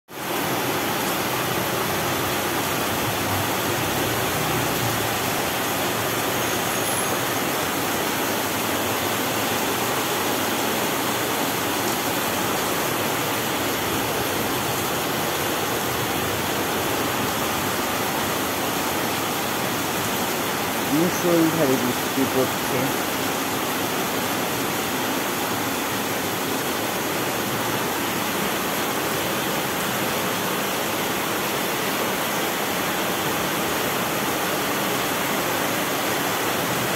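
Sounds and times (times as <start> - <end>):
rain falling: 0.1 - 36.9.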